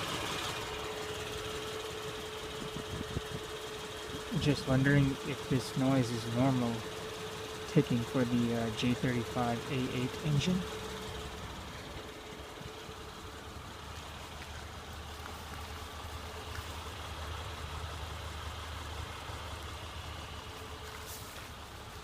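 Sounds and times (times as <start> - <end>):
car engine running with ticking: 0.0 - 22.0.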